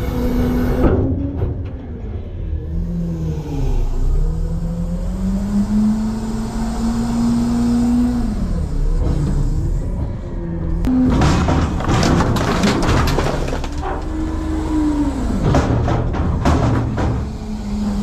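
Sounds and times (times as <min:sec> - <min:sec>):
truck engine revving: 0:02.5 - 0:18.0.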